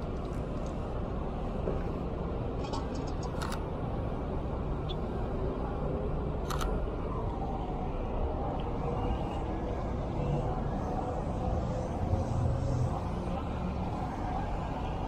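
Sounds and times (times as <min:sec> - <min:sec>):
city traffic hum: 0:00.0 - 0:15.0.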